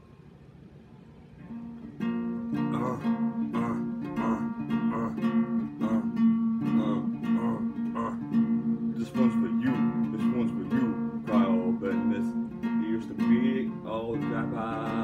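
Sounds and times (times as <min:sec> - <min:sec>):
acoustic guitar strumming: 0:01.4 - 0:15.0.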